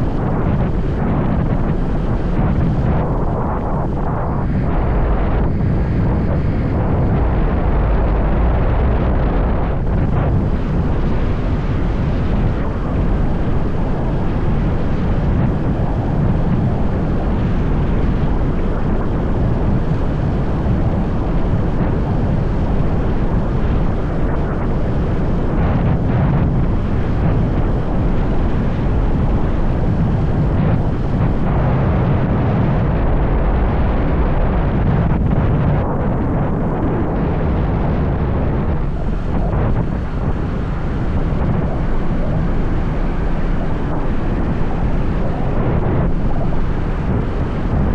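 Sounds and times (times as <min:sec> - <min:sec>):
wind noise on microphone: 0:00.0 - 0:47.9.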